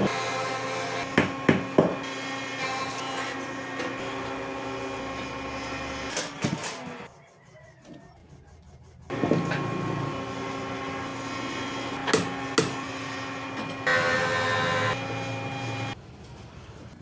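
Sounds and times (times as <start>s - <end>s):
workshop hum: 0.0s - 17.0s.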